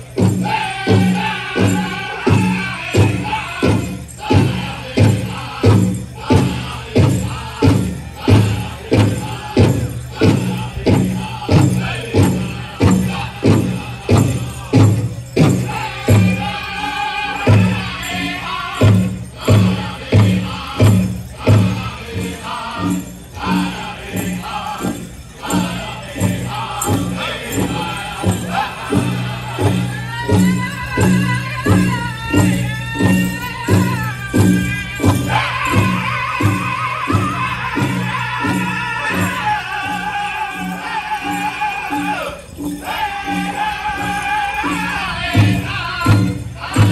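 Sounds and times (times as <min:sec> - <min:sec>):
bells jingling: 0:00.0 - 0:46.9
group singing in chorus: 0:00.0 - 0:46.9.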